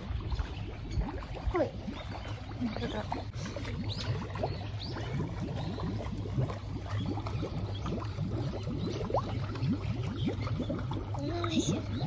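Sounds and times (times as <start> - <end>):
fish gulping at water surface: 0.0 - 12.0.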